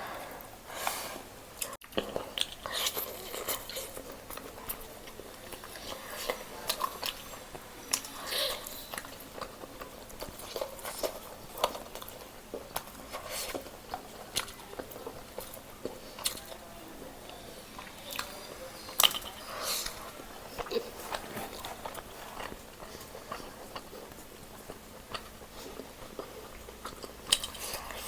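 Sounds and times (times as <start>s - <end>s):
person chewing food: 1.6s - 28.0s.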